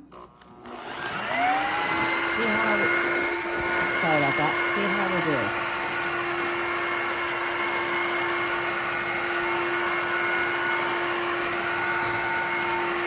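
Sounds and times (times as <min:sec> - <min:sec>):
wet-dry vacuum running: 0:00.6 - 0:13.0.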